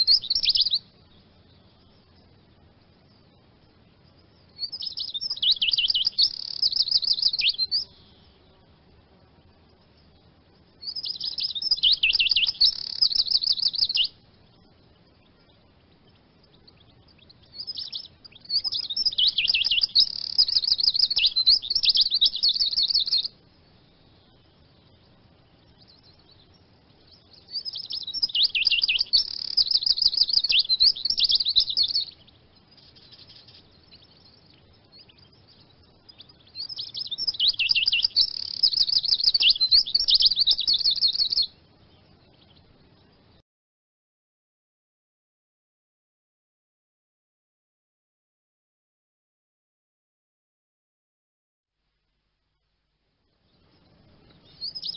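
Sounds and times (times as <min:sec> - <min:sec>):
bird twittering song: 0:00.0 - 0:43.4, 0:53.2 - 0:54.9.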